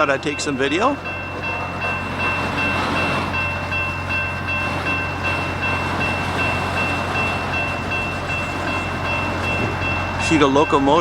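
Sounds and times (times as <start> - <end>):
locomotive engine drone: 0.0 - 11.0.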